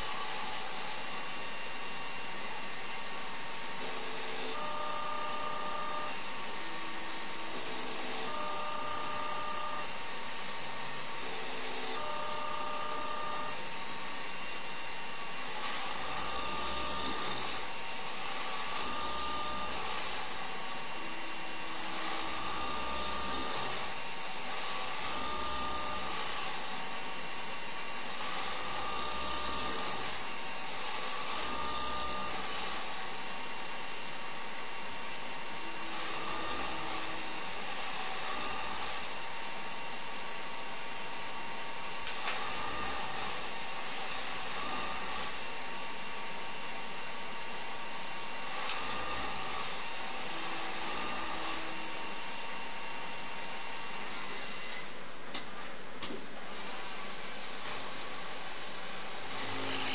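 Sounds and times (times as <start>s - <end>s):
cnc spindle hiss: 0.0s - 54.9s
axis motors whining: 0.0s - 59.9s.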